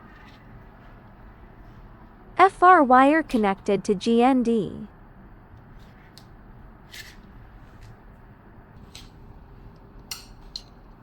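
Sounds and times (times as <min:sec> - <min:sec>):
cooling fan whirring: 0:00.0 - 0:11.0.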